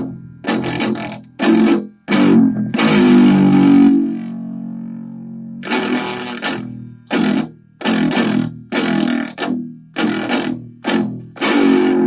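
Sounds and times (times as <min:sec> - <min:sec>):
distorted electric guitar chugging: 0:00.0 - 0:12.0.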